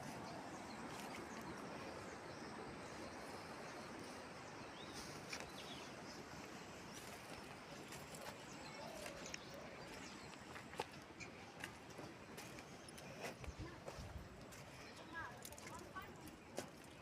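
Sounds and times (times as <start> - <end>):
steady low hiss: 0.0 - 15.3.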